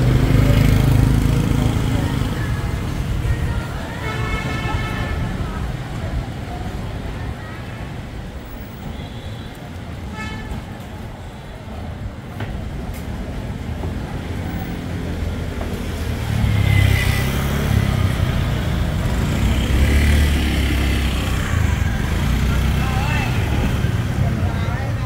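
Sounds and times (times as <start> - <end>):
scooter engines passing: 0.0 - 25.0.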